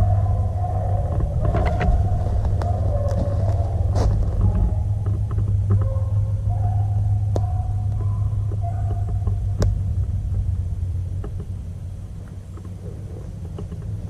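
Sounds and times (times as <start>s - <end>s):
distant dogs baying: 0.0s - 14.0s
steady low rumble: 0.0s - 14.0s.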